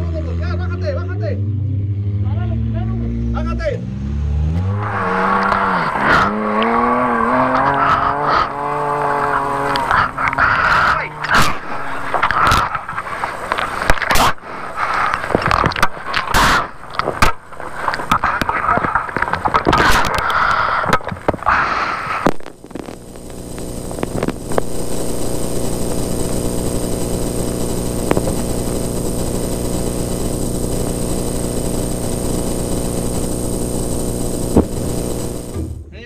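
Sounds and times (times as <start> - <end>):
steady engine drone: 0.0 - 36.0.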